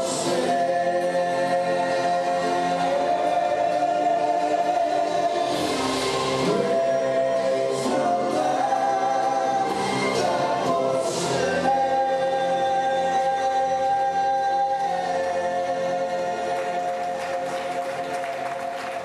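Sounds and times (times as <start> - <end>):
male vocal group singing harmony: 0.0 - 18.6.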